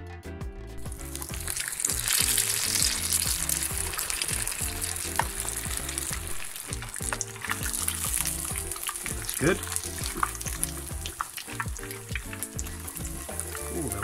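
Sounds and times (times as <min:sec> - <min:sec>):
background music with beat: 0:00.0 - 0:14.0
fish deep-frying in oil: 0:00.8 - 0:14.0.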